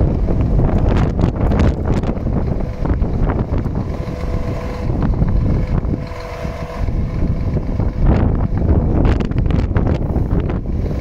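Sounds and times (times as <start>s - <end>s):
hydraulic whine: 0.0s - 11.0s
truck engine running: 0.0s - 11.0s
wind noise on microphone: 0.0s - 11.0s.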